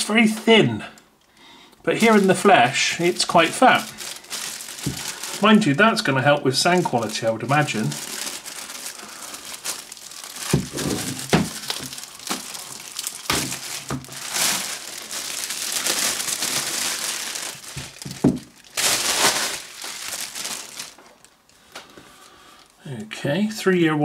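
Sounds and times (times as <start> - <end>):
plastic bag crinkling: 1.2 - 22.8.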